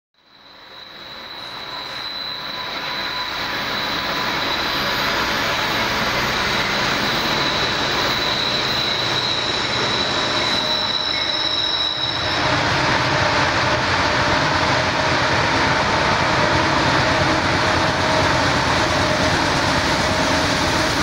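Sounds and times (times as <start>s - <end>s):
diesel locomotives rumbling: 0.6s - 21.0s.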